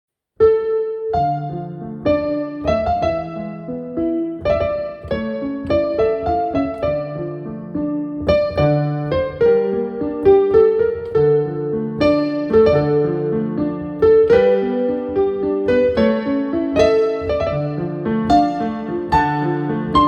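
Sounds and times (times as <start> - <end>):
solo piano music: 0.4 - 20.0.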